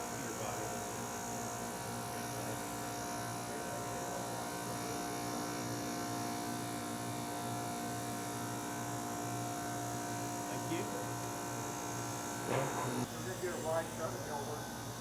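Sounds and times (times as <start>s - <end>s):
refrigeration hum and buzz: 0.0s - 15.0s.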